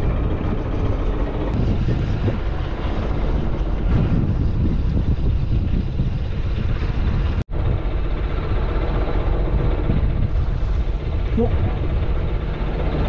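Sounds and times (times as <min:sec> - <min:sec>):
boat engine running: 0:00.0 - 0:13.0
wind noise on microphone: 0:00.0 - 0:13.0.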